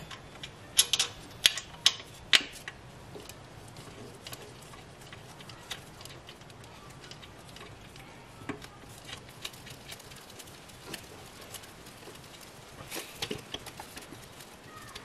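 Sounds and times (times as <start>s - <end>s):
metal parts clicking and tapping: 0.0s - 15.0s.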